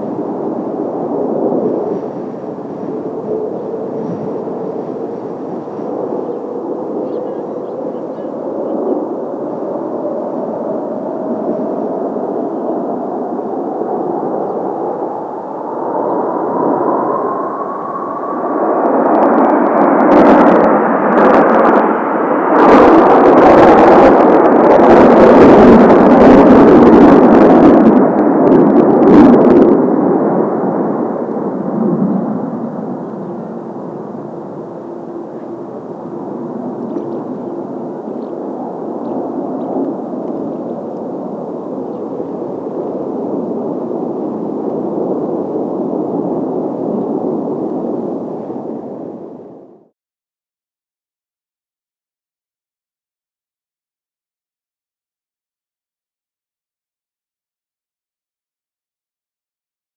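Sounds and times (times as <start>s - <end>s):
jet aircraft passing overhead: 0.0s - 49.9s.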